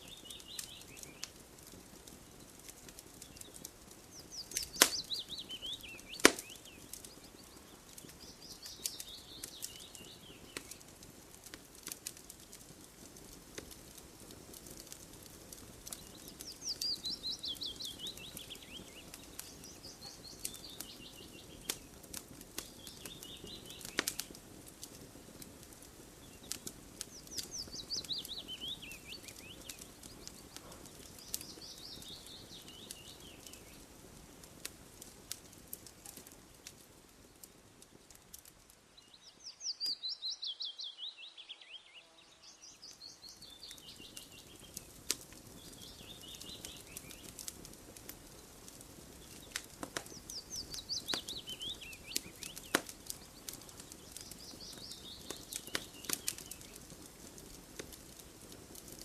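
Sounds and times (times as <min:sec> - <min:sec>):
campfire crackling and popping: 0:00.0 - 0:41.6, 0:42.3 - 0:59.0.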